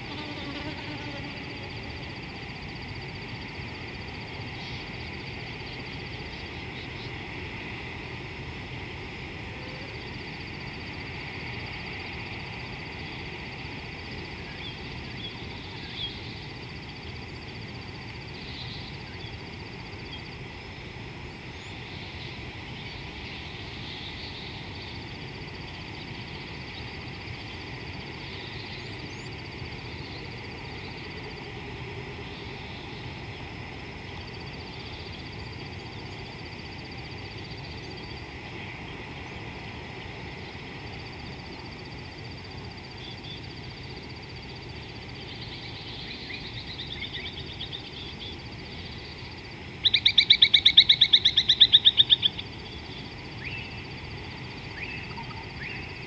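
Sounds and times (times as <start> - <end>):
steady hiss of insects: 0.0 - 56.0.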